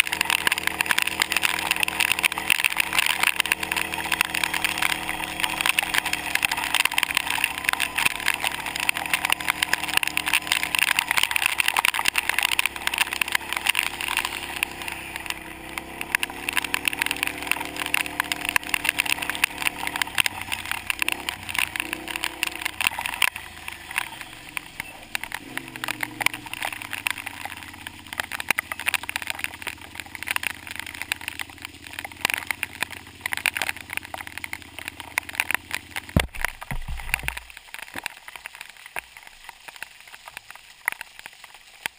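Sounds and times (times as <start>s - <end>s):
atv engine running: 0.0s - 38.9s
rain hitting camera housing: 0.0s - 41.9s.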